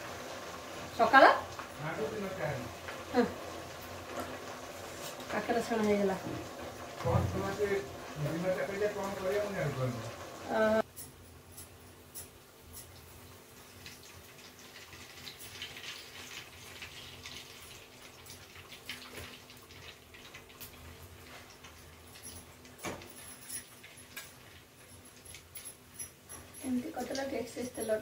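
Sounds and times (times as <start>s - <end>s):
deep-frying sizzle and pops: 0.0s - 28.0s.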